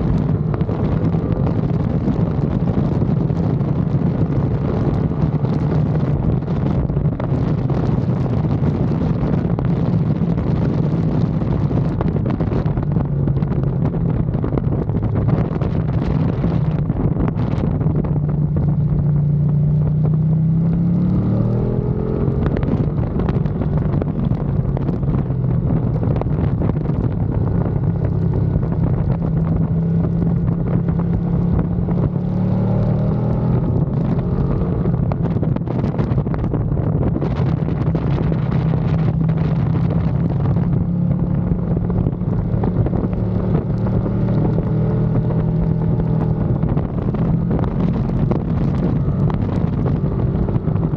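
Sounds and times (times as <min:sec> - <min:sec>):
motorcycle engine running hard: 0:00.0 - 0:50.9
wind buffeting microphone: 0:00.0 - 0:50.9.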